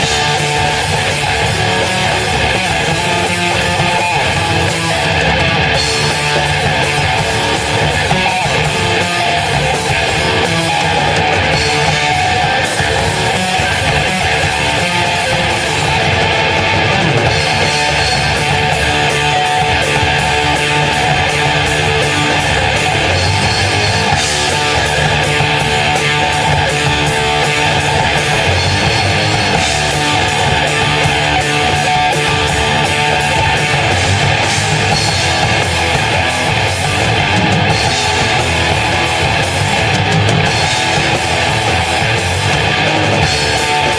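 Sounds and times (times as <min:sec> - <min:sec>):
band playing heavy rock: 0:00.0 - 0:43.9
electric guitar: 0:00.0 - 0:43.9
steady drum beat: 0:00.0 - 0:43.9.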